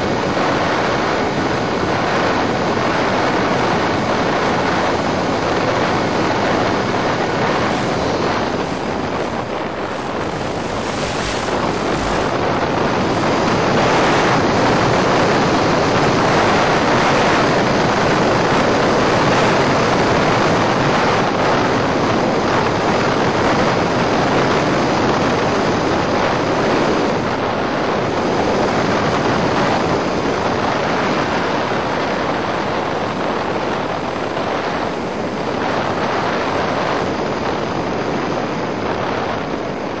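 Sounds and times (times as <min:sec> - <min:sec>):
wind rushing on microphone: 0:00.0 - 0:40.0.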